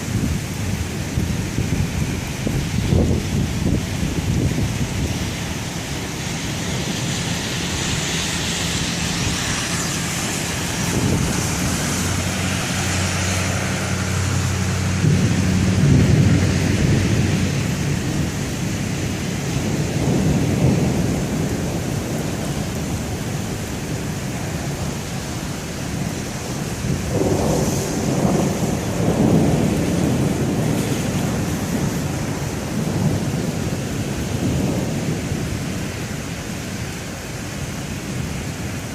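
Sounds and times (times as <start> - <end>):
heavy rain: 0.0 - 38.9
rolling thunder: 0.0 - 38.9.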